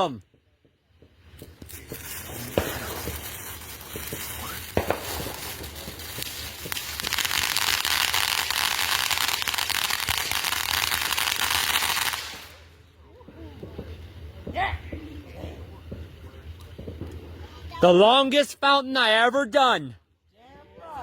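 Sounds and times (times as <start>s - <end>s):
firework fountain crackling: 0.0s - 19.3s
sharp firework pops: 0.3s - 17.6s.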